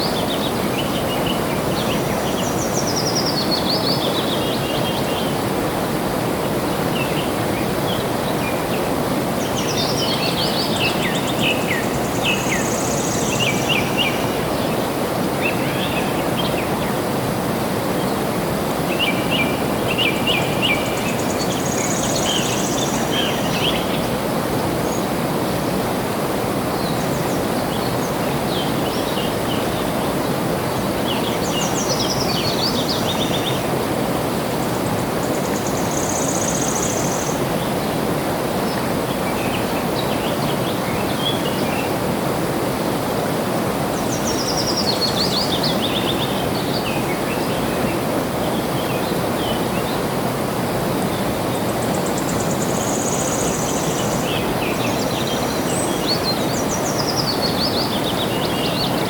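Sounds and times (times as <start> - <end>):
flowing water: 0.0 - 59.0
songbirds chirping: 0.0 - 59.0.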